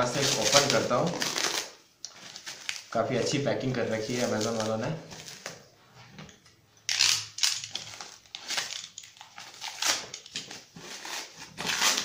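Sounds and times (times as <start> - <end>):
plastic wrap crinkling: 0.0 - 5.8, 6.9 - 12.0.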